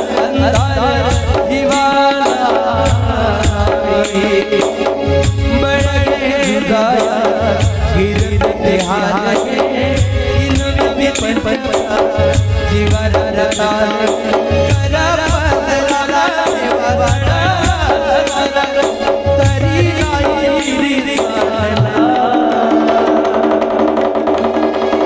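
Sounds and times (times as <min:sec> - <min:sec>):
person singing: 0:00.0 - 0:24.3
hand drum beating: 0:00.0 - 0:25.0.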